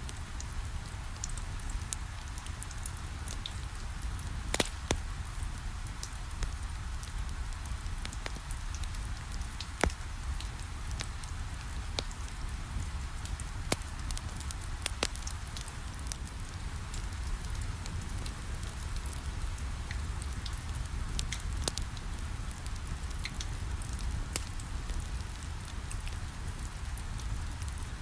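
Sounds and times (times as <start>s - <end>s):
wood fire crackling and popping: 1.3s - 27.9s.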